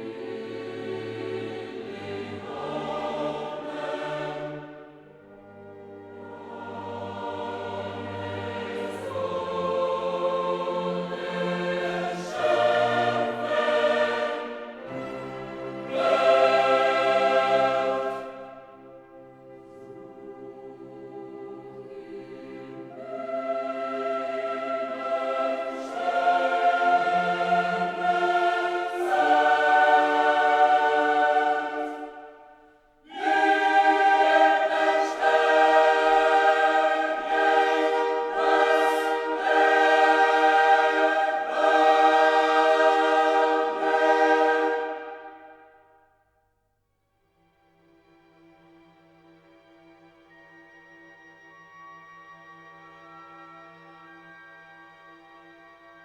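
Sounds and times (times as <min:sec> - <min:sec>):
choral music: 0:00.0 - 0:56.0.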